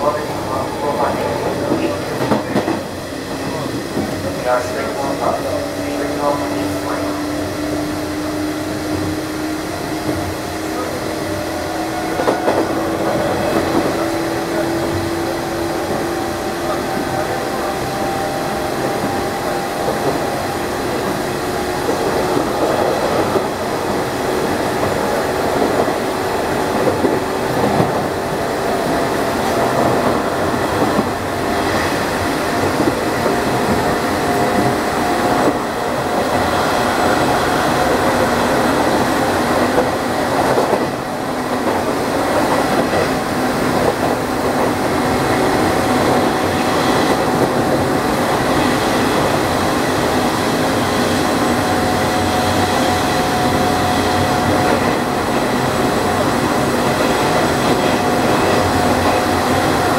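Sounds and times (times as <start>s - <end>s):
track clickety-clack: 0.0s - 59.9s
train motor and gear hum: 0.0s - 59.9s.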